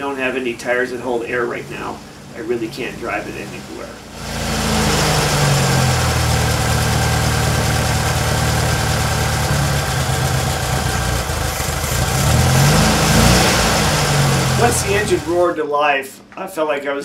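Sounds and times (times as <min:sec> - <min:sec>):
car engine idling: 0:00.6 - 0:15.6.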